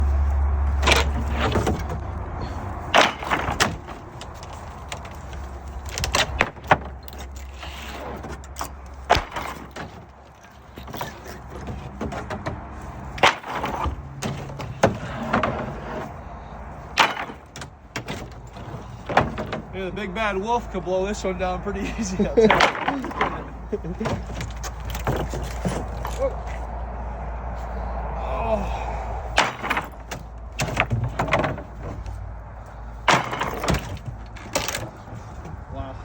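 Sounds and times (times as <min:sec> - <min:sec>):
wood cracking and knocking: 0:00.5 - 0:19.8, 0:22.1 - 0:26.8, 0:29.3 - 0:35.7.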